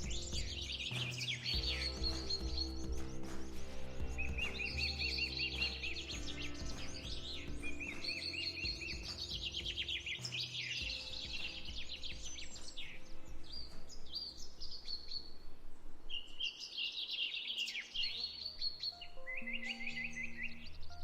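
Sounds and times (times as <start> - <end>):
low sustained tones: 0.0 - 16.5, 17.9 - 21.0
songbirds chirping and trilling: 0.0 - 21.0.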